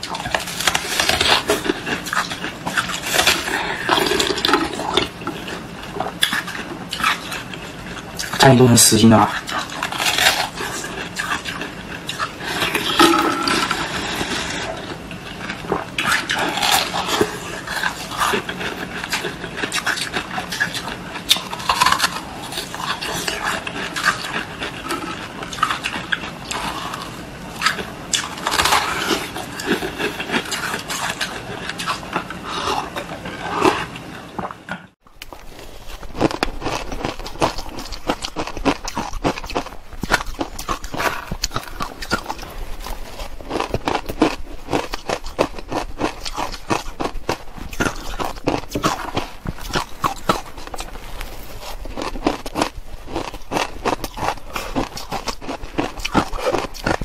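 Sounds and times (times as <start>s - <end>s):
ice crunching while chewing: 0.0s - 57.0s.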